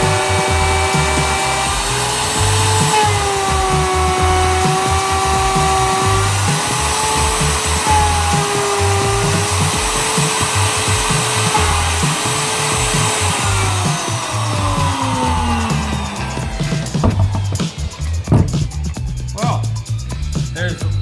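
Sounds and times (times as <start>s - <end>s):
power tool motor on wood: 0.0s - 18.6s
background music with a beat: 0.0s - 21.0s.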